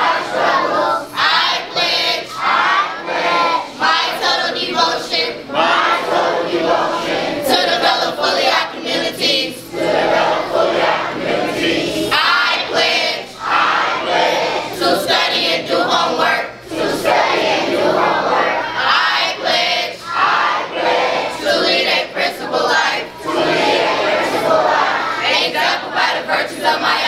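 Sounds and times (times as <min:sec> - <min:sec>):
crowd reciting in unison: 0:00.0 - 0:27.0.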